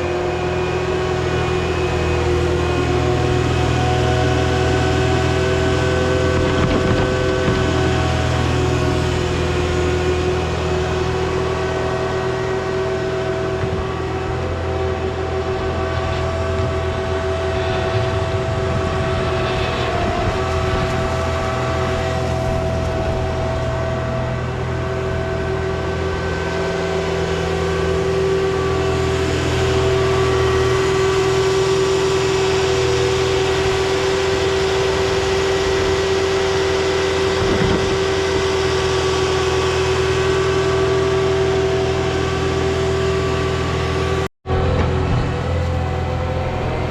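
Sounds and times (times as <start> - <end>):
constant whine: 0.0 - 46.9
diesel engine running: 0.0 - 46.9.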